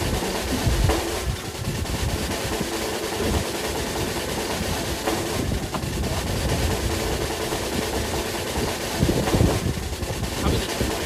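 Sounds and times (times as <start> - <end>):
boat engine rumbling: 0.0 - 11.0
broad hiss: 0.0 - 11.0.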